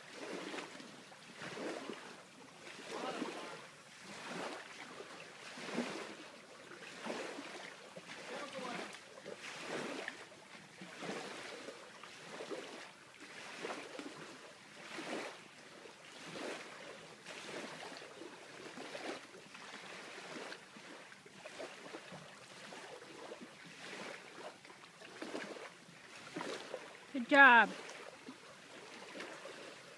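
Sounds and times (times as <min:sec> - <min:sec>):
small waves lapping against a dock: 0:00.0 - 0:29.9.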